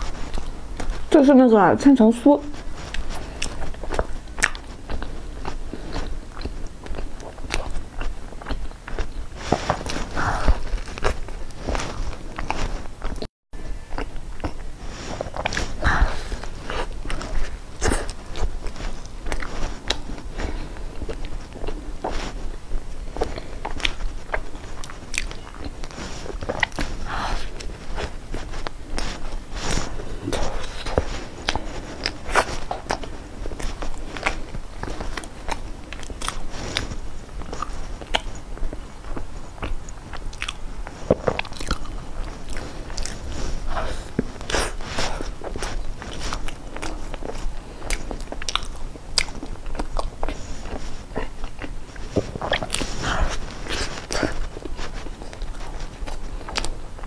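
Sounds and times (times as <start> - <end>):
crunching crisp pastry: 2.5 - 13.3, 13.9 - 57.0.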